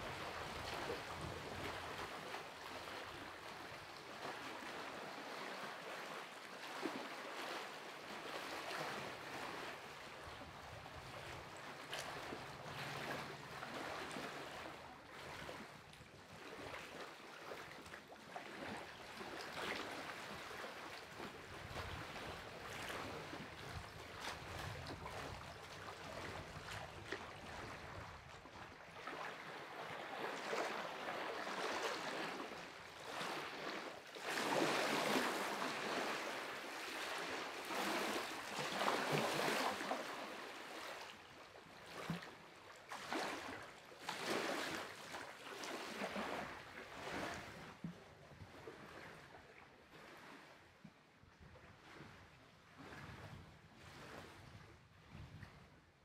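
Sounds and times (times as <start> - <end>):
lake waves lapping at shore: 0.0 - 56.0.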